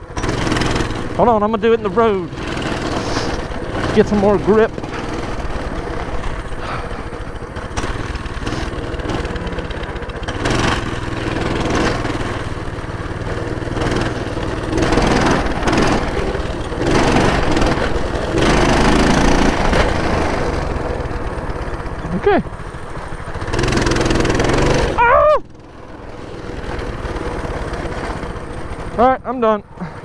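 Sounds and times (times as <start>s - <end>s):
small minibike engine running: 0.0s - 30.0s.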